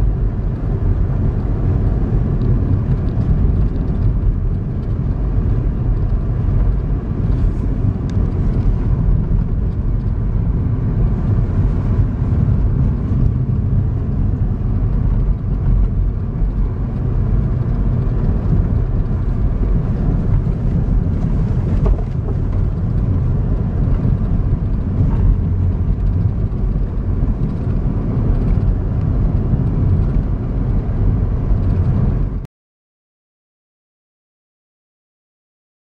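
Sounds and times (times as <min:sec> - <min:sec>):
car engine and tyres rumbling: 0:00.0 - 0:32.5.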